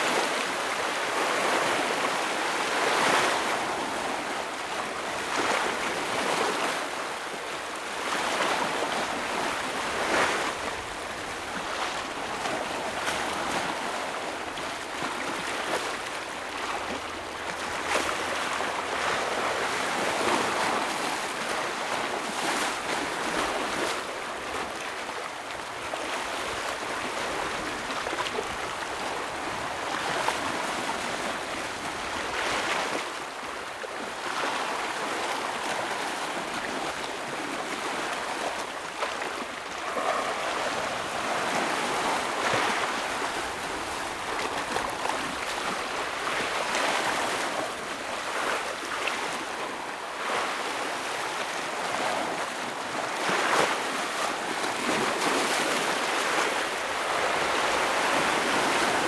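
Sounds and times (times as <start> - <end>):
ocean waves breaking over rocks: 7.8 - 59.0.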